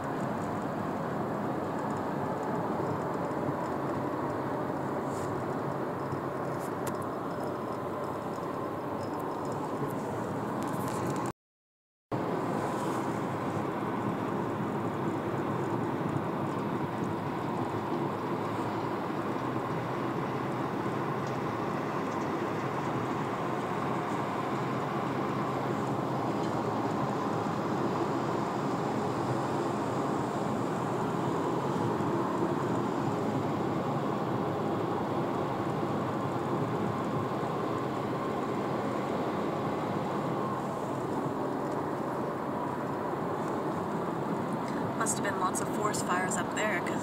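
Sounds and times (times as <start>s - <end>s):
car road noise from inside: 0.0s - 11.3s, 12.2s - 47.0s.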